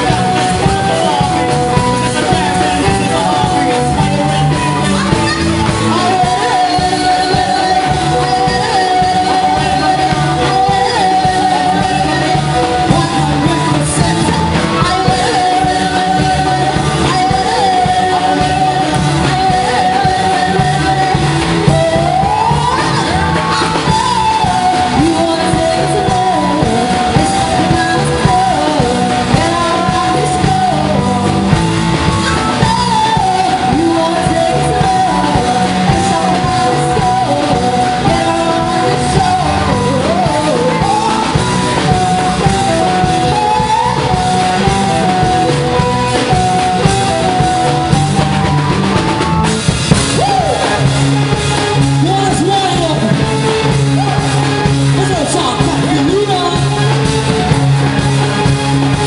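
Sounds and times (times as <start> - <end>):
live band playing: 0.0 - 59.0
person singing: 0.0 - 59.0.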